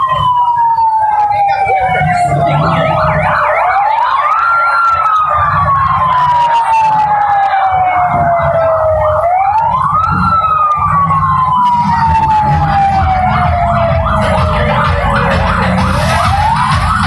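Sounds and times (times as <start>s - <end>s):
wailing siren: 0.0s - 17.0s.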